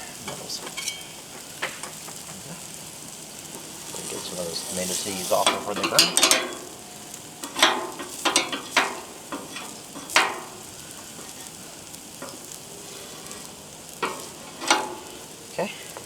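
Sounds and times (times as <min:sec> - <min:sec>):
food sizzling on a griddle: 0:00.0 - 0:16.0
spatula scraping a griddle: 0:00.0 - 0:16.0.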